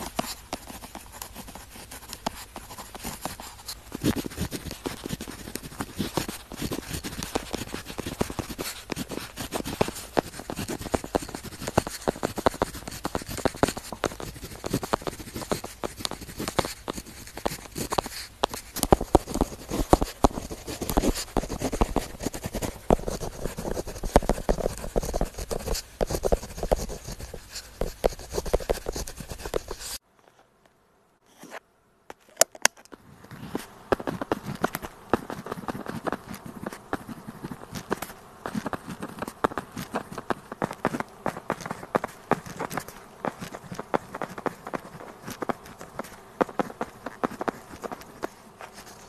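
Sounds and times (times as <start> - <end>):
pen scratching on paper: 0.0 - 30.0, 33.5 - 49.0.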